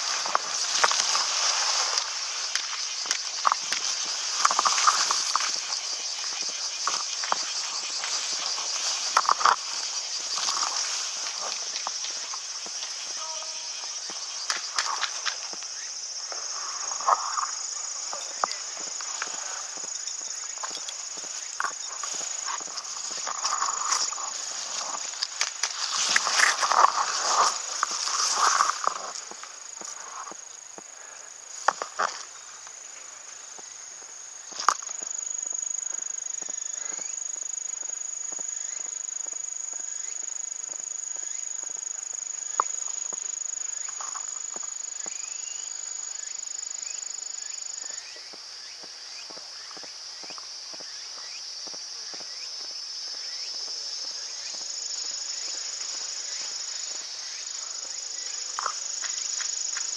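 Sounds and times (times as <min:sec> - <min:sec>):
shrill insect tone: 0:00.0 - 0:30.4, 0:34.4 - 0:59.9
footsteps in undergrowth: 0:00.0 - 0:37.1, 0:37.7 - 0:59.9
insect chorus: 0:00.0 - 0:59.9
rustling leaves and grass: 0:00.0 - 0:59.9.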